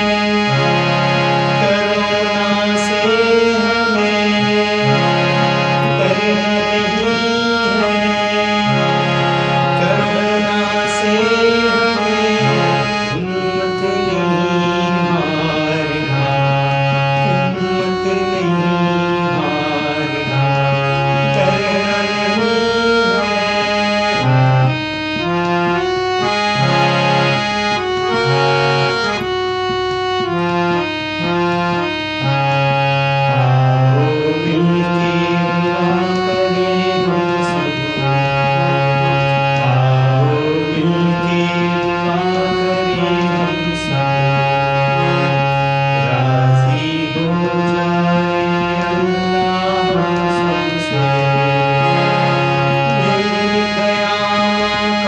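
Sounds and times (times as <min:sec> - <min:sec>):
free-reed keyboard melody over drone: 0:00.0 - 0:55.0.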